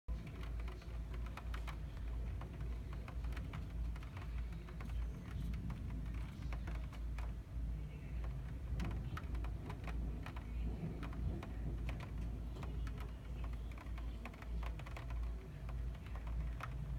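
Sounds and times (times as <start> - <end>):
raindrops ticking: 0.1 - 16.9
steady low rumble: 0.1 - 16.9.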